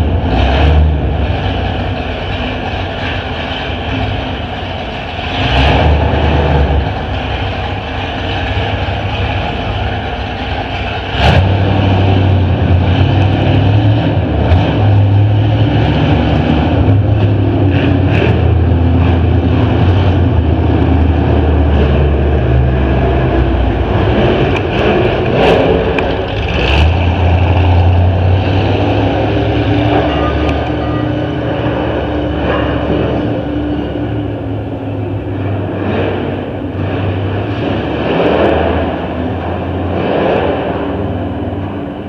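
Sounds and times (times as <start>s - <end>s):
car engines droning: 0.0s - 42.0s.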